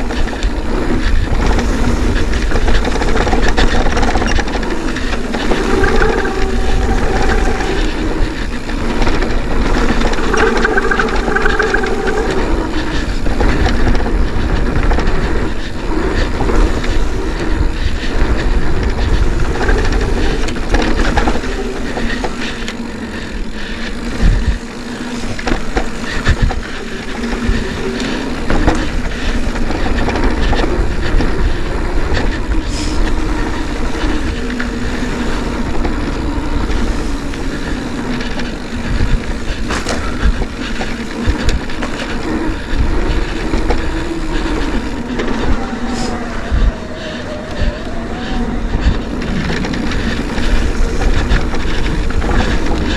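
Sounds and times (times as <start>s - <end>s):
bike parts rattling: 0.0s - 52.9s
bike tyres on dirt trail: 0.0s - 52.9s
wind rumble on microphone: 0.0s - 52.9s.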